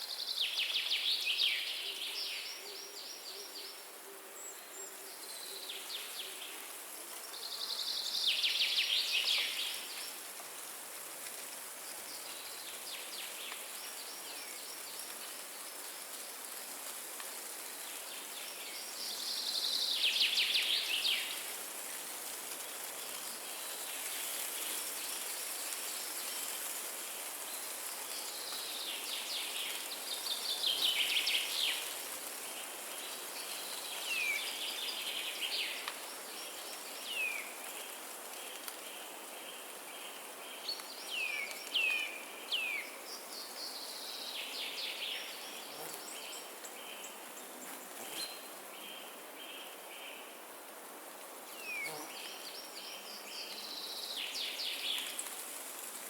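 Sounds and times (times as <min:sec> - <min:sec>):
wind in forest: 0:00.0 - 0:56.0.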